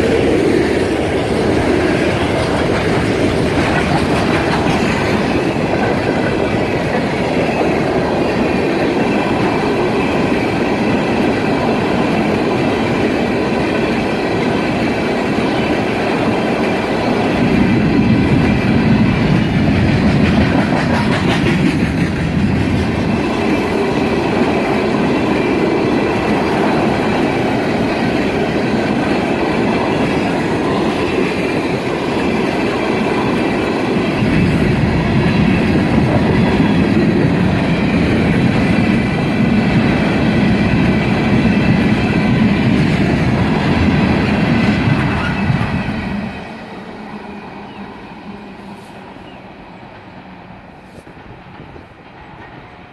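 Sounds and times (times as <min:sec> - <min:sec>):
freight train wheels clacking: 0:00.0 - 0:48.8, 0:49.5 - 0:52.9.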